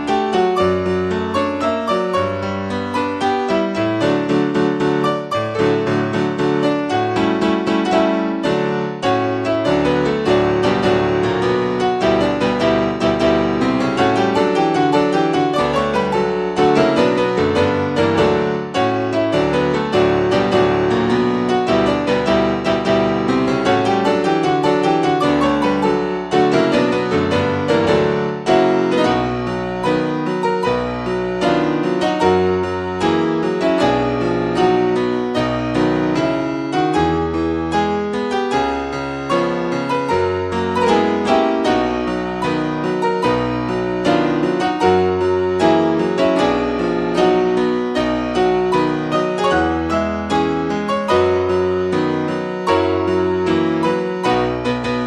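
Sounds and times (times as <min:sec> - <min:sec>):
piano music quick notes: 0:00.0 - 0:55.0.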